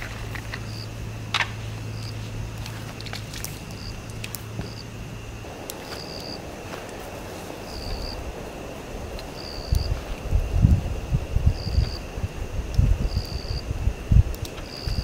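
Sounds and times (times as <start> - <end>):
high insect drone: 0.0 - 15.0
low hum: 0.0 - 15.0
wind on microphone: 0.0 - 15.0.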